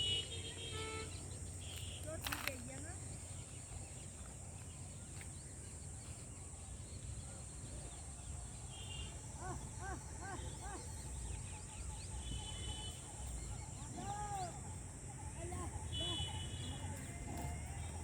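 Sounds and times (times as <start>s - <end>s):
bird calls: 0.0s - 18.0s
insect drone: 0.0s - 18.0s.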